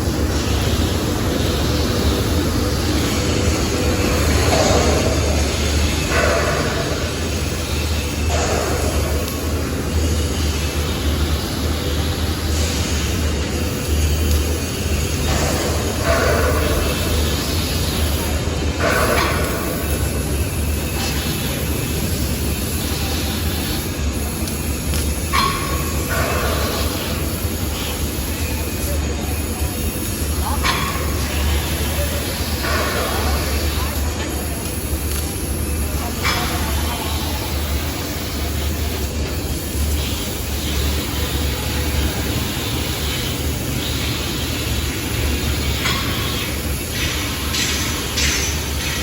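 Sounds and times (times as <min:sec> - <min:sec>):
laser cutting machine running: 0:00.0 - 0:49.0.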